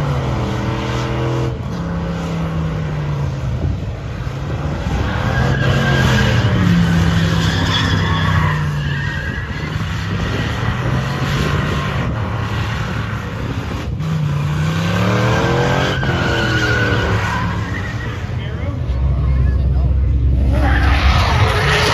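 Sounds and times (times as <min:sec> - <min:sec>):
truck engine revving: 0:00.0 - 0:21.9.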